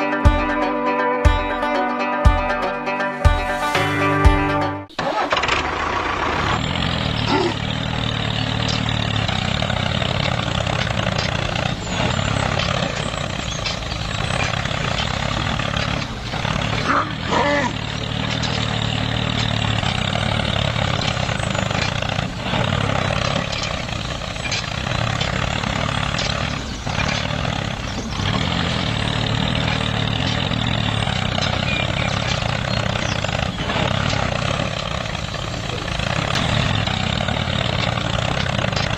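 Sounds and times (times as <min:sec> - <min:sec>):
motor hum: 0:05.0 - 0:38.9.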